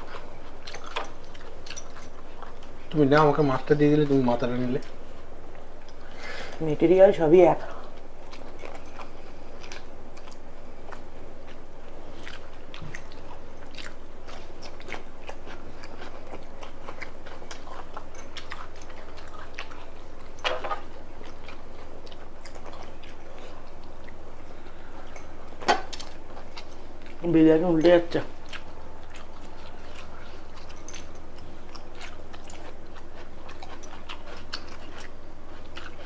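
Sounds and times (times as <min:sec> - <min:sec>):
people chewing and crunching food: 0:00.0 - 0:36.0.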